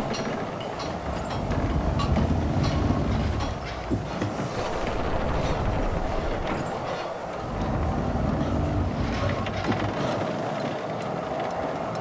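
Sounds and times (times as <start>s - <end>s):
drilling rig machinery rumble: 0.0s - 11.8s
constant hum: 0.0s - 12.0s
machinery clatter: 0.0s - 12.0s.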